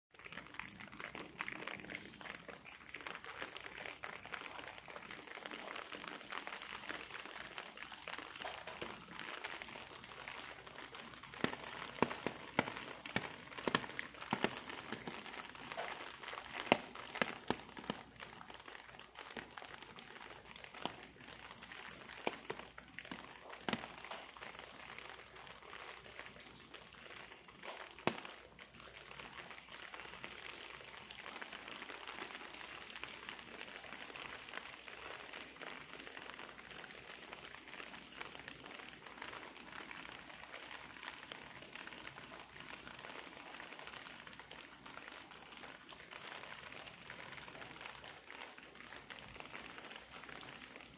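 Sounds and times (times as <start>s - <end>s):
rain hissing: 0.4s - 50.9s.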